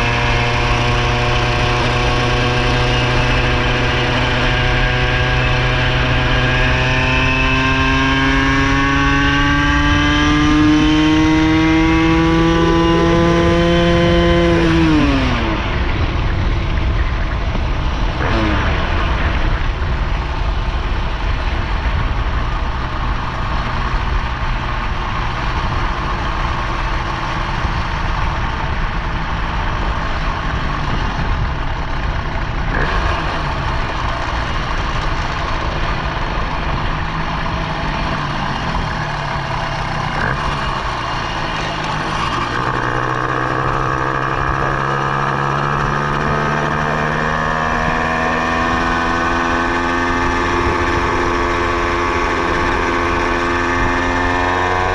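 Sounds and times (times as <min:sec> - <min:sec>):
two-stroke engine running: 0:00.0 - 0:54.9.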